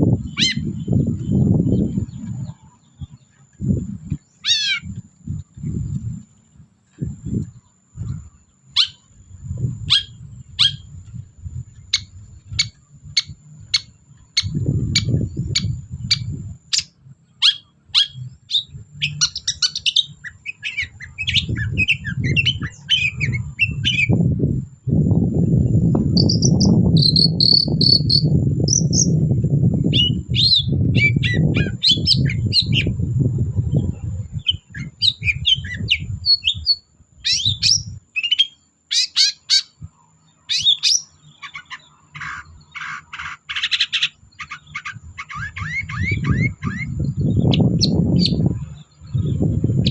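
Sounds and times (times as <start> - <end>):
bird singing sharp calls: 0.0 - 5.0, 7.4 - 9.2, 9.8 - 11.0, 11.7 - 24.2, 25.4 - 29.2, 29.8 - 33.0, 33.7 - 49.9
low rumbling noise: 0.0 - 38.0, 45.0 - 49.9.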